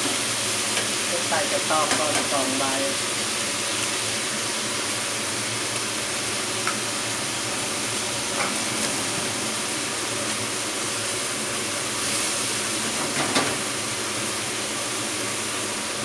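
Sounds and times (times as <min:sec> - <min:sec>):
pork sizzling in hot oil: 0:00.0 - 0:16.0.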